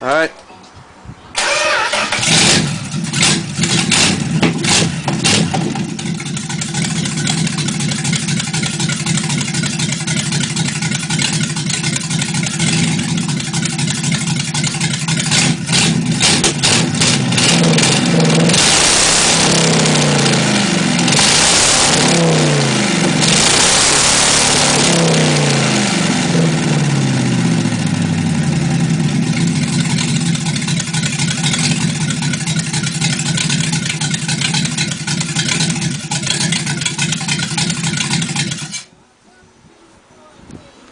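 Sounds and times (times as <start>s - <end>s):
engine idling and revving: 1.4s - 38.9s
engine popping: 1.4s - 38.9s.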